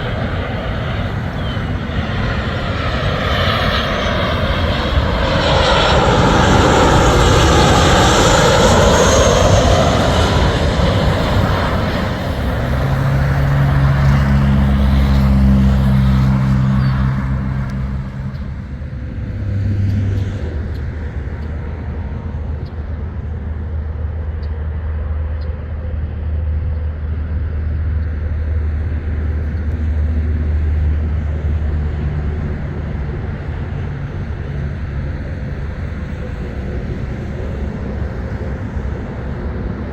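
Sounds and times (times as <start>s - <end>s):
jet airliner passing: 0.0s - 39.9s.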